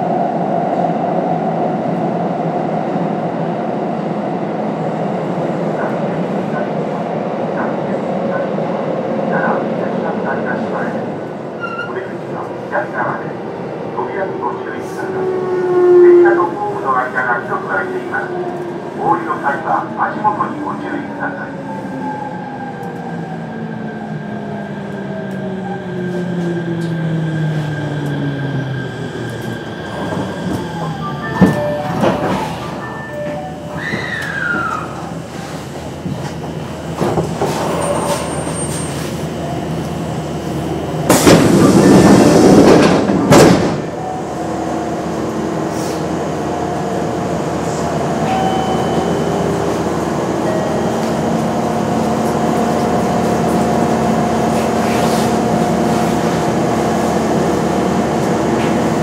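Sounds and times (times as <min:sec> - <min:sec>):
stopped train humming: 0:00.0 - 0:59.0.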